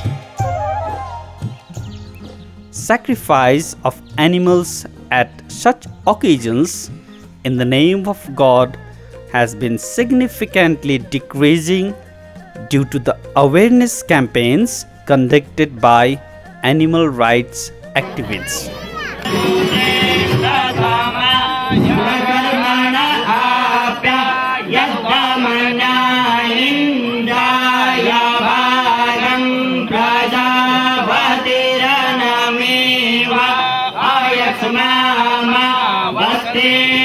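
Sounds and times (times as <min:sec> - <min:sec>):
man chanting a hymn: 0:02.8 - 0:37.0.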